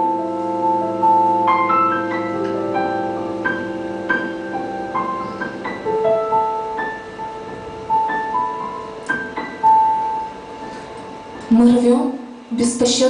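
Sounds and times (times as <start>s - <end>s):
slow solo piano melody: 0.0s - 11.5s.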